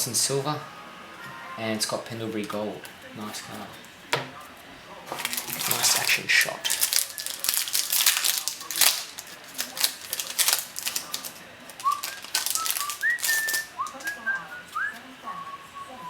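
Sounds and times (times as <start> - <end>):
card packs crackling and rustling: 1.8 - 15.2.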